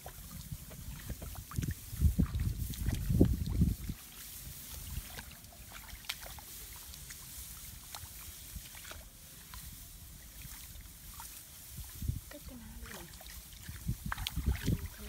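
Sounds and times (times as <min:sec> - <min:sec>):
small splashes in muddy water: 0:00.0 - 0:15.0.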